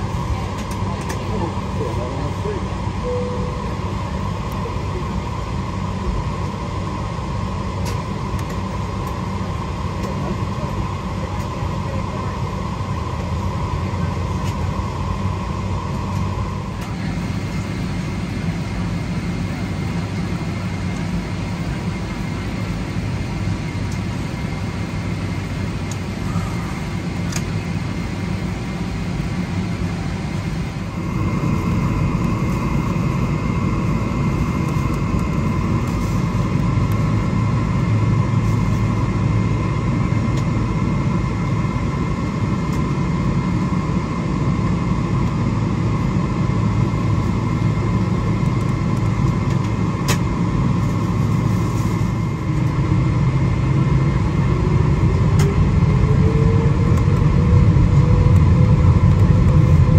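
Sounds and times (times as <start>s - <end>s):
jet engines humming and whining: 0.0s - 59.9s.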